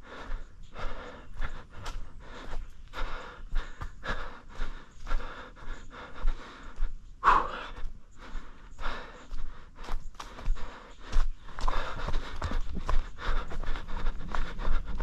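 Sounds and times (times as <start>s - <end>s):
person panting heavily: 0.0s - 15.0s.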